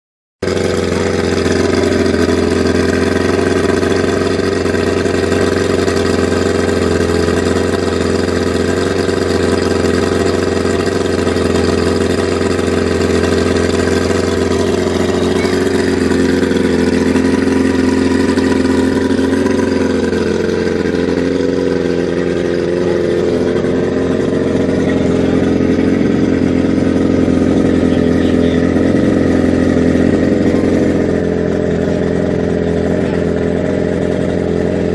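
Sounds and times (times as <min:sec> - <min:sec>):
outboard motor running: 0:00.4 - 0:34.9.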